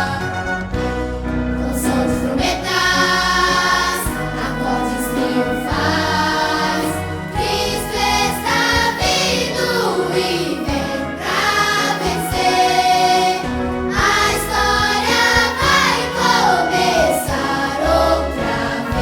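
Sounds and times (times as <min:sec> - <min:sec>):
children's choir singing a hymn: 0:00.0 - 0:00.6, 0:01.6 - 0:19.0
instrumental accompaniment: 0:00.0 - 0:19.0.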